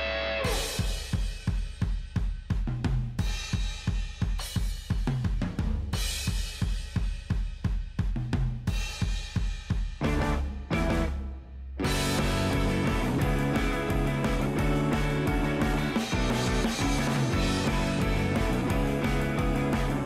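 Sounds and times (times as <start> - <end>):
rock music with drums and bass: 0.0 - 20.0.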